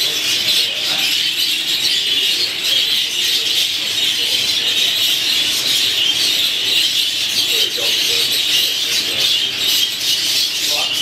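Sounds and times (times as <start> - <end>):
budgerigars chattering and warbling: 0.0 - 11.0.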